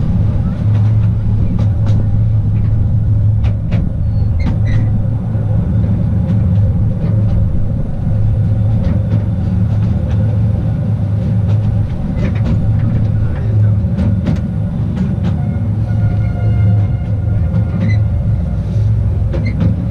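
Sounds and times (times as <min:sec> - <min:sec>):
train wheels rumbling: 0:00.0 - 0:19.9.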